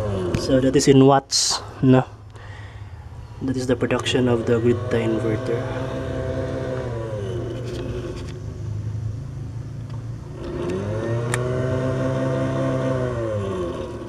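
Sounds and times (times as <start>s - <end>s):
engine revving: 0.0s - 0.9s, 3.4s - 14.0s
low hum: 1.6s - 14.0s.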